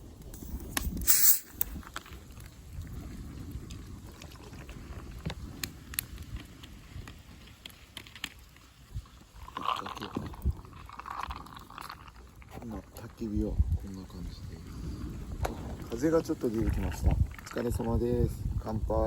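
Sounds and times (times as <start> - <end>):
campfire crackling and popping: 0.0 - 19.0
wind rumble on microphone: 0.0 - 19.0.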